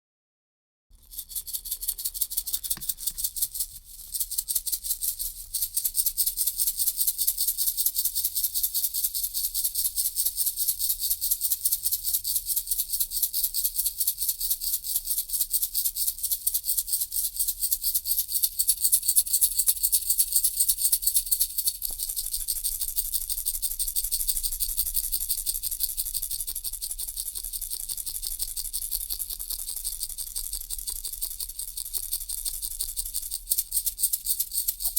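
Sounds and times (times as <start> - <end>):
baby rattle shaking: 1.0 - 10.6, 12.8 - 34.9.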